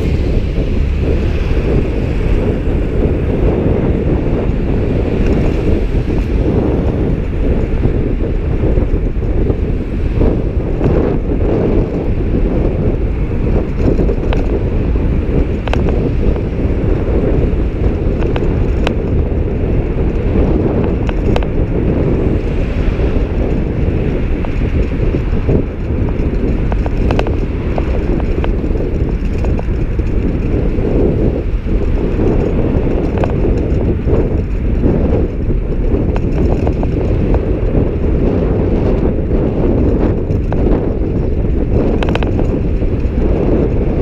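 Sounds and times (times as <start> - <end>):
bicycle clicks and rattles: 0.0 - 44.0
wind buffeting microphone: 0.0 - 44.0.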